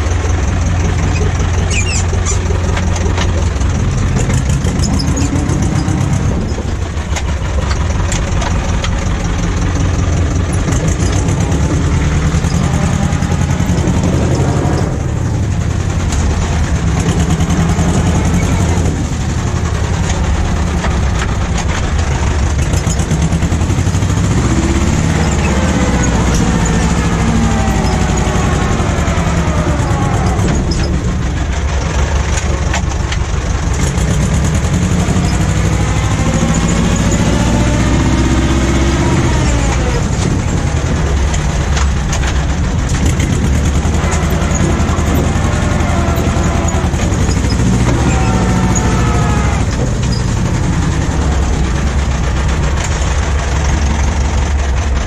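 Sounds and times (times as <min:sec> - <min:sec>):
whining tones: 0:00.0 - 0:32.6, 0:33.8 - 0:54.8
tractor diesel engine running: 0:00.0 - 0:55.0.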